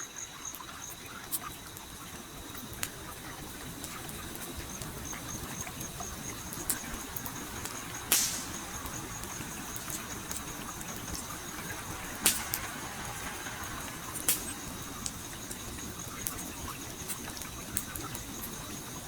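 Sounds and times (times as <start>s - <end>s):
campfire crackling with pops: 0.2s - 19.0s.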